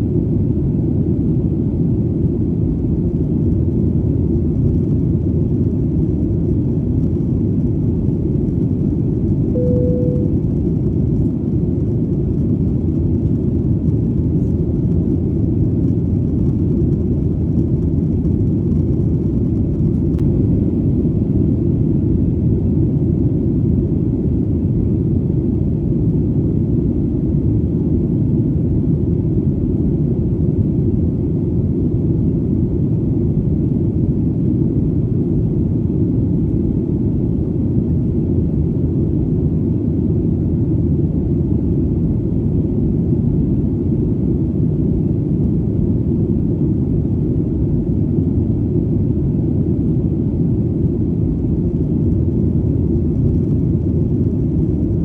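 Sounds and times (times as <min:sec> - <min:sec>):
airplane engine rumble: 0:00.0 - 0:55.0.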